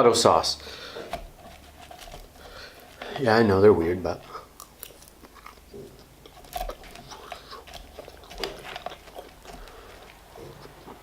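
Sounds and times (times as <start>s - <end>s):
person chewing and biting: 0.6s - 11.0s.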